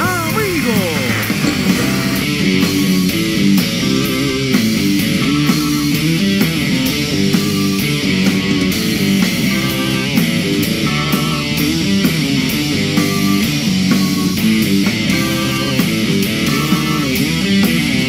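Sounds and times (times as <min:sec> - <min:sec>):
electric guitar: 0:00.0 - 0:18.0
live rock band: 0:00.0 - 0:18.0.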